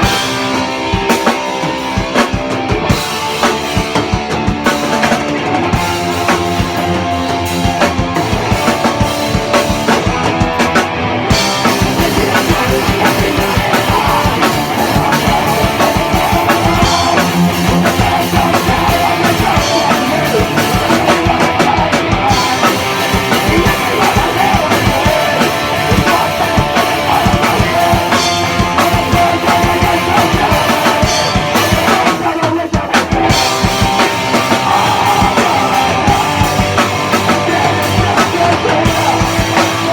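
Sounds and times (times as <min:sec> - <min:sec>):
punk rock band playing: 0:00.0 - 0:39.9.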